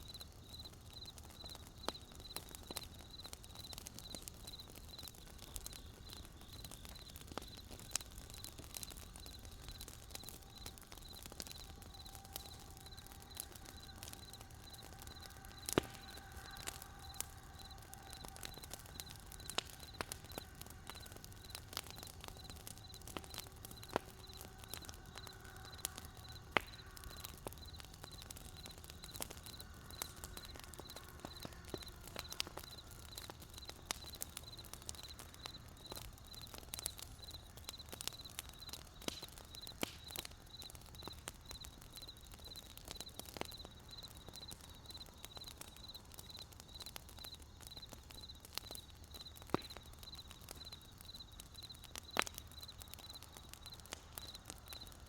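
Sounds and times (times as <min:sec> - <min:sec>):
campfire crackling and popping: 0:00.0 - 0:55.0
cricket chirping: 0:00.0 - 0:55.0.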